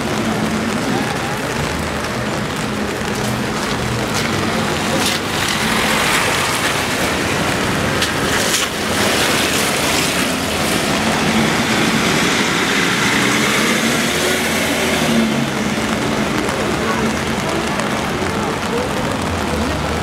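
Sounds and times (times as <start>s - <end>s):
hiss of tyres and rain: 0.0s - 20.0s
traffic engine hum: 0.0s - 20.0s.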